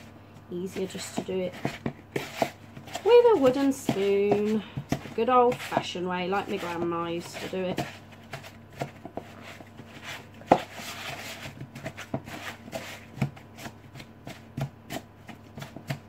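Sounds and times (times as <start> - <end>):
wooden spoon creaming butter in bowl: 0.6 - 16.0.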